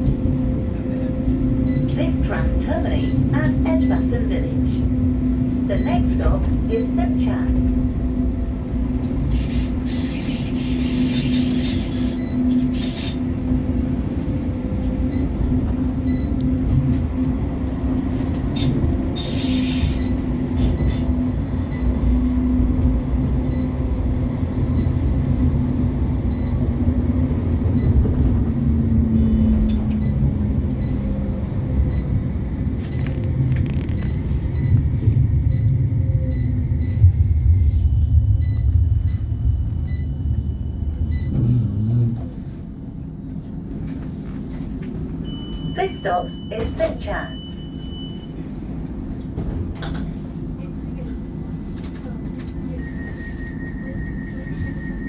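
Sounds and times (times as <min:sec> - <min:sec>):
tram wheel and track rumble: 0:00.0 - 0:55.0.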